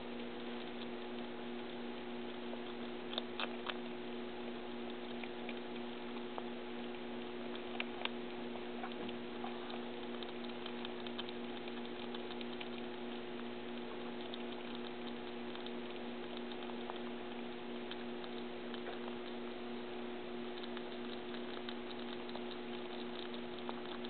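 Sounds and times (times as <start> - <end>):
steady hum: 0.0 - 24.0
squirrels cracking nut shells: 0.1 - 4.1, 4.7 - 24.0.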